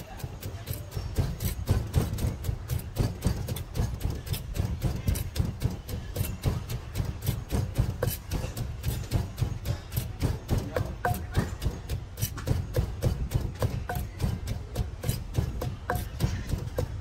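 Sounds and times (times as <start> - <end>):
pestle pounding in mortar: 0.0 - 17.0.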